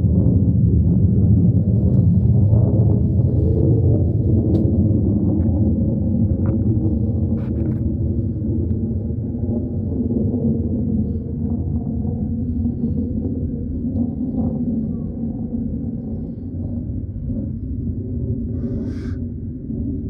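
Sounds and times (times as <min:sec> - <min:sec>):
low rumbling drone from sky: 0:00.0 - 0:20.0.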